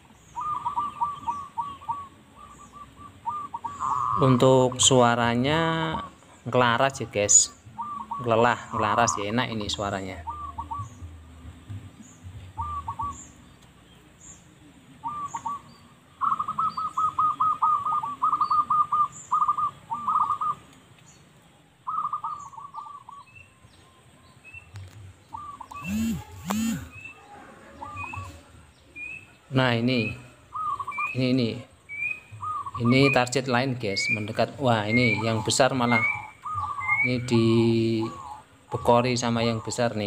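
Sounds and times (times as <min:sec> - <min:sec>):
dove cooing: 0:00.0 - 0:20.8, 0:21.8 - 0:24.0, 0:24.8 - 0:40.0
loud bird calls: 0:00.0 - 0:40.0
small birds chirping: 0:00.0 - 0:40.0.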